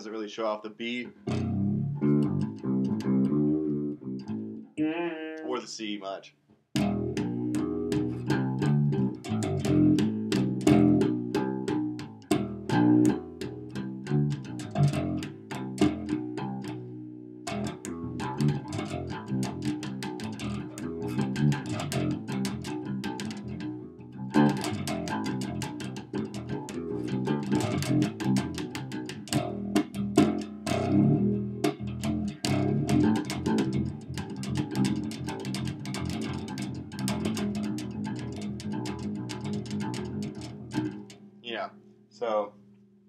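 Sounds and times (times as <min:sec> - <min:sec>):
fretless bass plucked notes: 0:01.2 - 0:05.5, 0:06.8 - 0:41.3.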